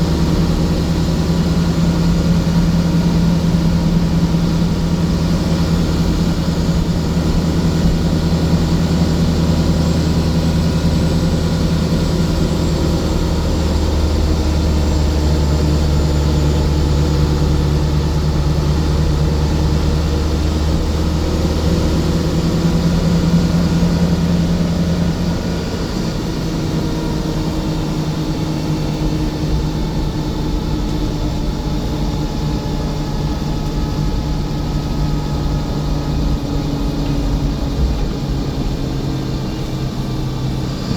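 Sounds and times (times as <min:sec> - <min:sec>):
diesel coach engine humming: 0:00.0 - 0:40.9.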